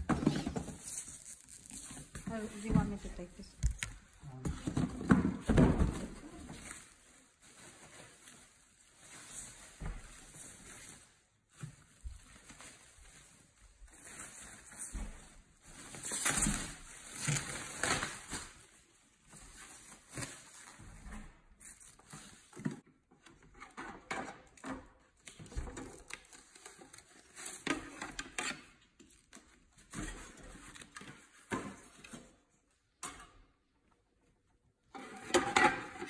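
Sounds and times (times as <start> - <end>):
plastic and foam packaging rustling: 0.0 - 23.5, 24.4 - 32.8.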